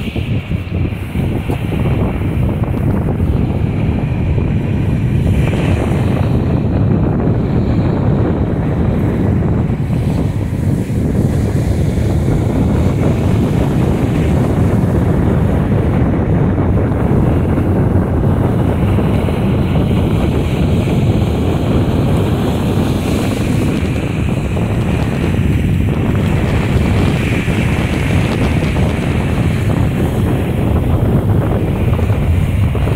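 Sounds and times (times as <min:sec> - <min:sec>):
sea surf breaking on shore: 0:00.0 - 0:32.9
wind buffeting microphone: 0:00.0 - 0:32.9.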